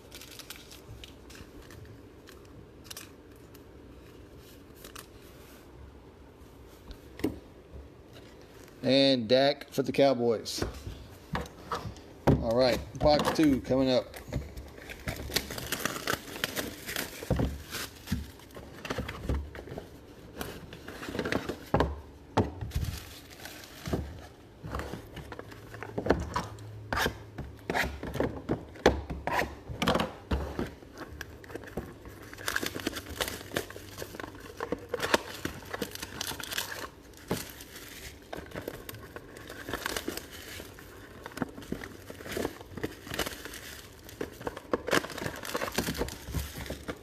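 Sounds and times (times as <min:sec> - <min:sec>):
plastic wrapping crinkling and tearing: 0:00.0 - 0:05.5, 0:12.4 - 0:27.1, 0:27.8 - 0:47.0.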